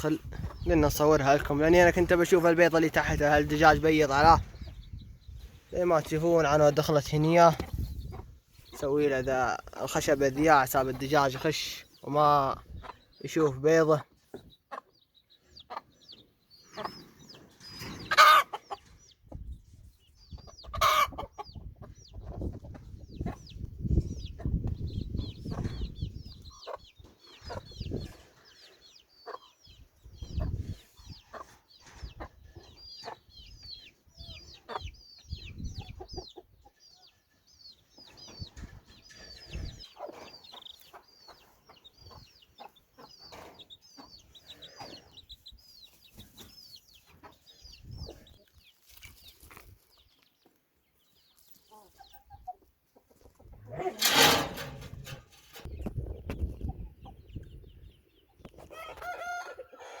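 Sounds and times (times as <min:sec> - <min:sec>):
chickens clucking: 0:00.0 - 1:00.0.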